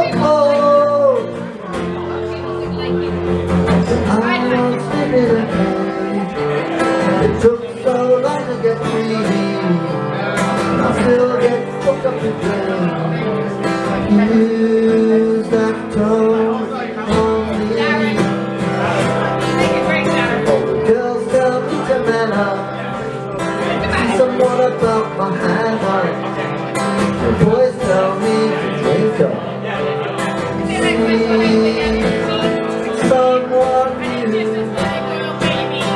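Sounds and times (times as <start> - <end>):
acoustic guitar strumming: 0.0 - 35.9
man singing: 0.0 - 35.9.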